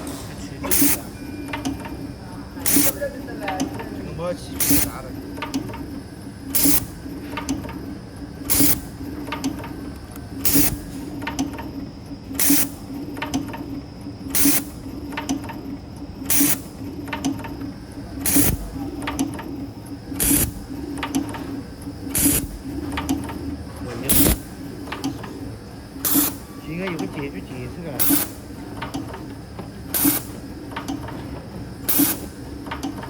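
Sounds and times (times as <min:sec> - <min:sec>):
machine hum with high whine: 0:00.0 - 0:33.0.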